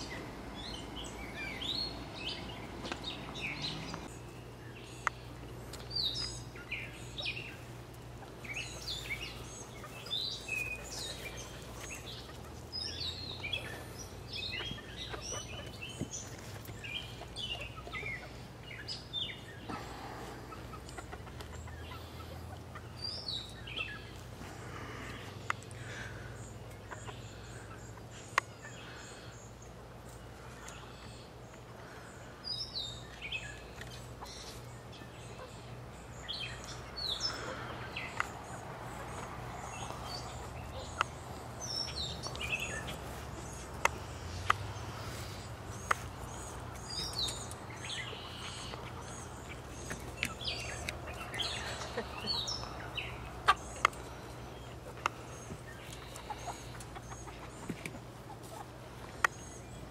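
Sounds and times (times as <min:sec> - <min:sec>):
chickens chirping: 0:00.0 - 0:59.9.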